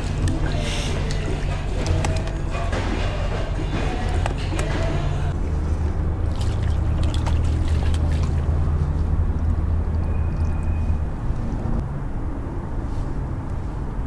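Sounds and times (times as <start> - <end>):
boat engine humming: 0.0 - 12.6.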